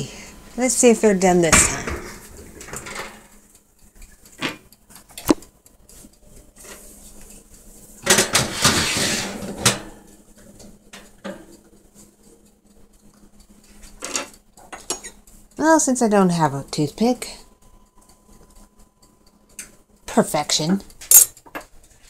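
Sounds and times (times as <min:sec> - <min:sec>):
oven rack and muffin tins clattering: 0:00.0 - 0:17.4, 0:19.5 - 0:22.0.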